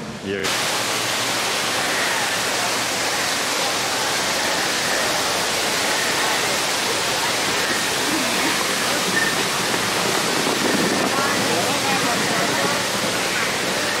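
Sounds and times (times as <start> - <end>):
waterfalls rushing: 0.3 - 14.0
faint crowd chatter: 1.6 - 14.0.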